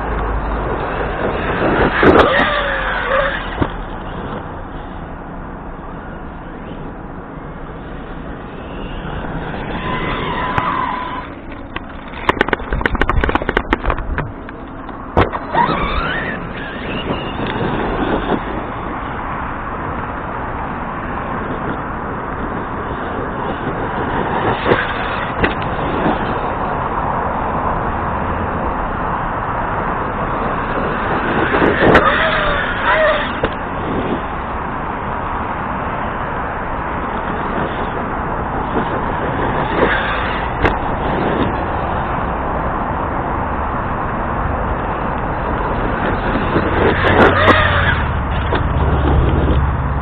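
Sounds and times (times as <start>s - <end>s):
tyre noise: 0.0s - 4.7s, 6.9s - 28.1s, 28.7s - 50.0s.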